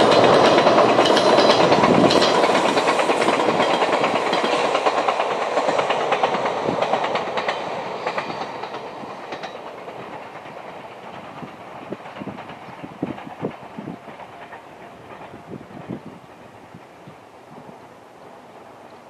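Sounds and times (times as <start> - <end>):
wheels clicking over rail joints: 0.0 - 16.6
electric train passing: 0.0 - 19.0.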